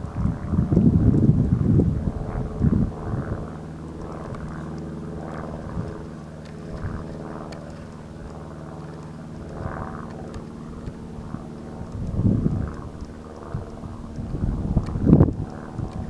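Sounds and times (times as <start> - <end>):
low mechanical hum: 0.0 - 16.0
wind on microphone: 0.0 - 16.0.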